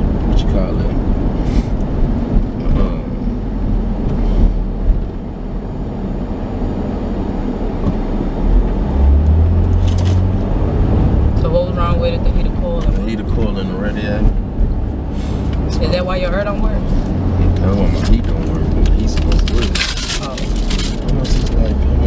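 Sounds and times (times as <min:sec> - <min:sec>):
car cabin engine and tyre rumble: 0:00.0 - 0:22.0
deep hum: 0:00.0 - 0:22.0.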